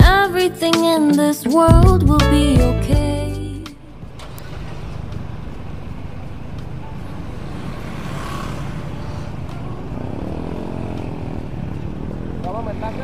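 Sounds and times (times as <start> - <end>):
motorbike engine rumble: 1.9 - 13.0.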